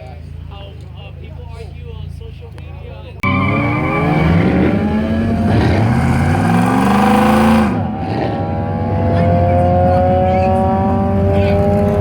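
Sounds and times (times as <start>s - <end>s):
car engines accelerating hard: 0.0s - 12.0s.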